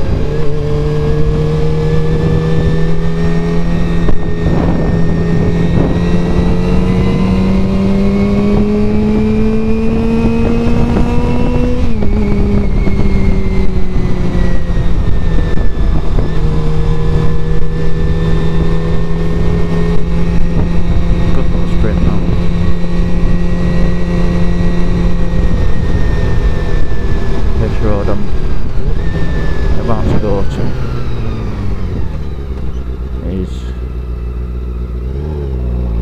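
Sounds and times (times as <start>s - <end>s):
wind rush on microphone: 0.0s - 33.4s
motorcycle engine accelerating: 0.0s - 36.0s.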